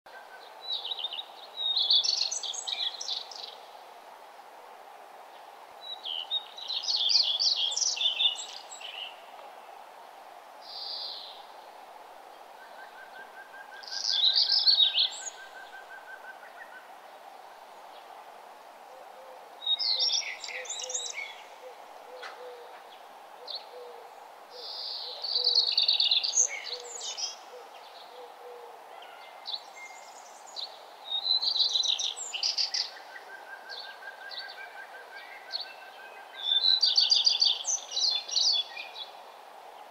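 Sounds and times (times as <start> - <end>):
songbird chirping: 0.1 - 4.0, 5.2 - 18.3, 18.9 - 39.9.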